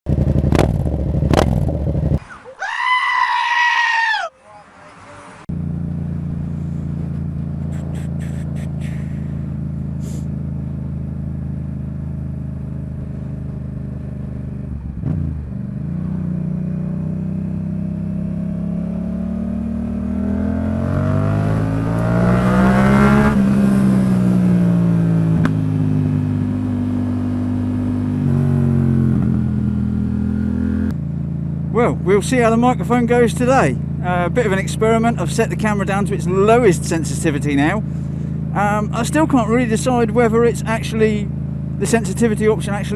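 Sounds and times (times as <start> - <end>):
motorcycle engine accelerating: 0.0 - 2.2, 5.5 - 42.9.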